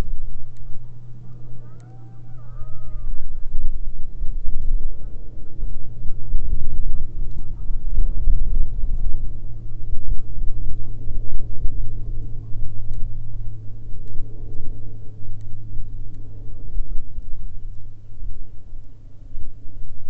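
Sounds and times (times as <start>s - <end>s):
distant airplane rumble: 0.0s - 20.0s.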